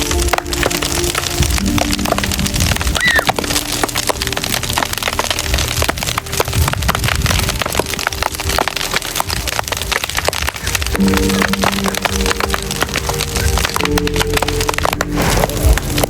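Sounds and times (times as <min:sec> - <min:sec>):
wood bonfire crackling: 0:00.0 - 0:16.0.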